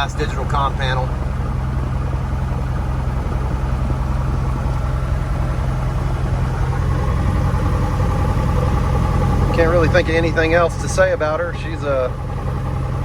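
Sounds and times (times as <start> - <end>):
airplane engine idling: 0.0 - 13.0.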